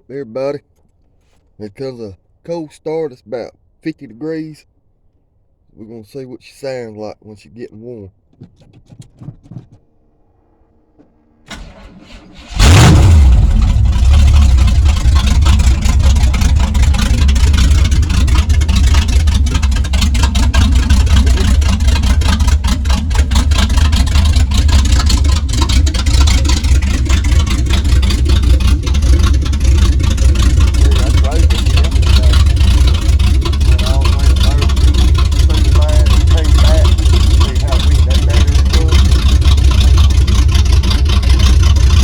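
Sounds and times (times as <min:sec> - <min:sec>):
vehicle engine rumbling: 0:00.0 - 0:06.6, 0:07.2 - 0:42.0
engine starter cranking: 0:08.4 - 0:42.0.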